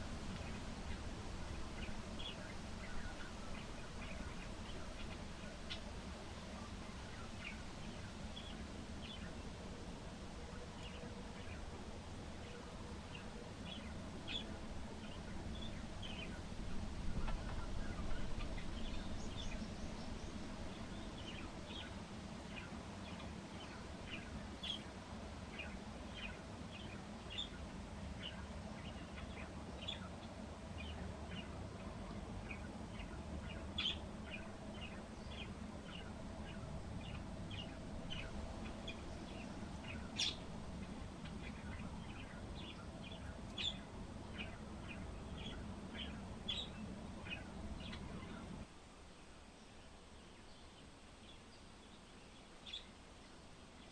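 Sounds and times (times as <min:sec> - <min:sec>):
small birds chirping: 0:00.0 - 0:48.7, 0:49.5 - 0:53.9
wind rumble: 0:00.0 - 0:48.7
city background noise: 0:00.0 - 0:53.9.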